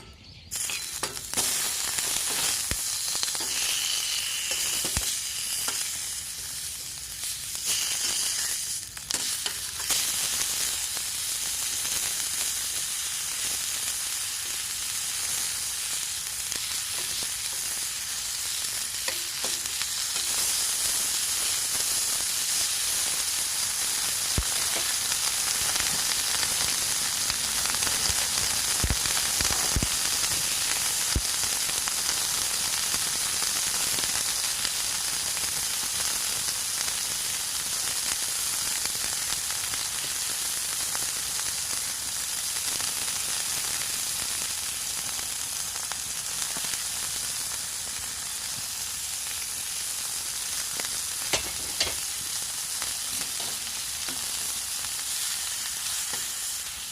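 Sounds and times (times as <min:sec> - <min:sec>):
steak sizzling in a frying pan: 0:00.5 - 0:56.9.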